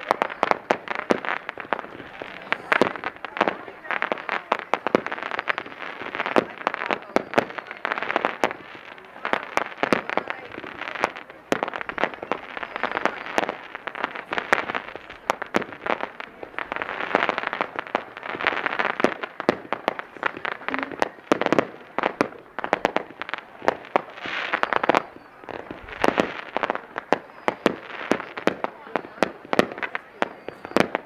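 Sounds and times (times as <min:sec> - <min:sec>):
crackling hiss of fireworks: 0:00.0 - 0:31.0
fireworks cracks and pops: 0:00.0 - 0:31.0.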